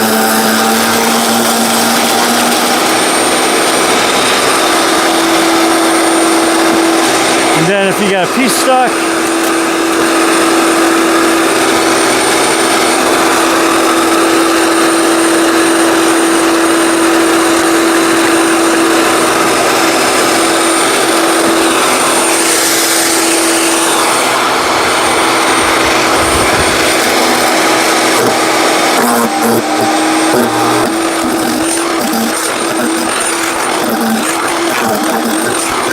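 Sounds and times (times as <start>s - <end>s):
wood chipper running: 0.0s - 35.9s.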